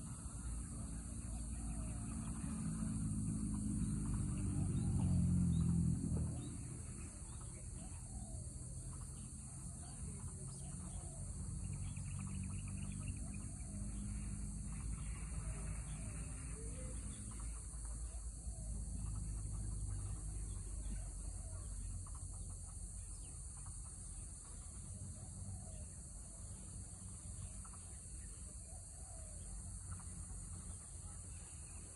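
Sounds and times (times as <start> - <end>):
high-pitched insect drone: 0.0 - 31.9.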